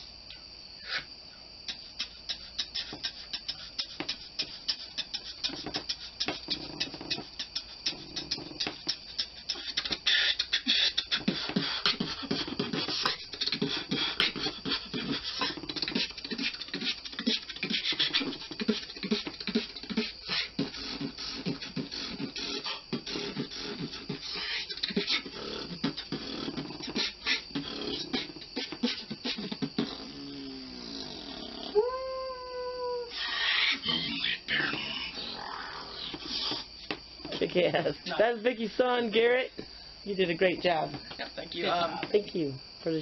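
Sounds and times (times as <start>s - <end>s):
person beatboxing: 1.7s - 37.4s.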